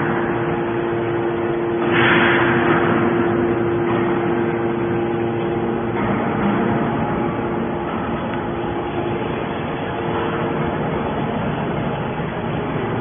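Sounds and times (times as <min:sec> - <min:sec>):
hydraulic pump humming: 0:00.0 - 0:13.0.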